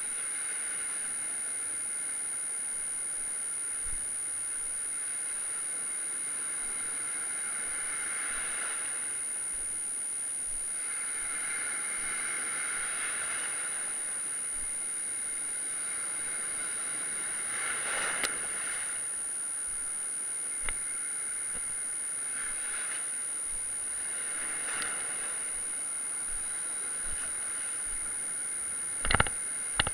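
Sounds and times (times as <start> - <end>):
steady high-pitched whine: 0.0 - 29.9.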